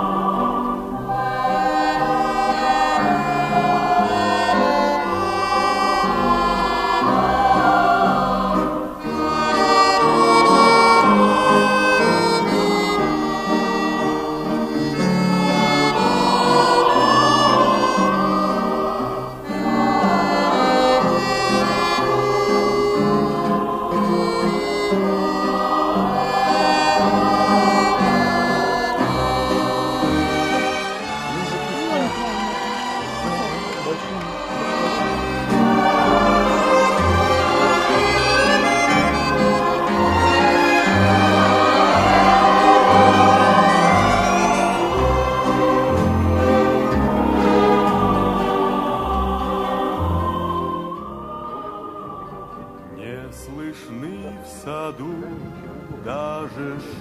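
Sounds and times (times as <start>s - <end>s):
slow melody with held notes: 0.0s - 56.4s.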